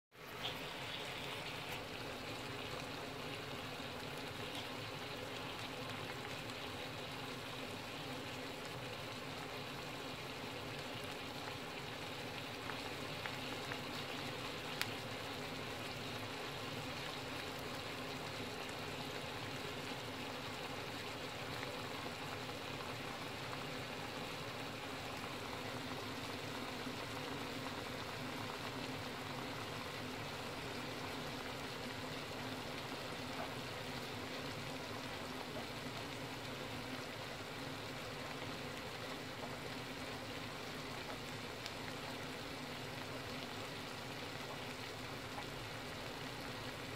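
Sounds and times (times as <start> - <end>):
oil sizzling in a pan: 0.1 - 46.9.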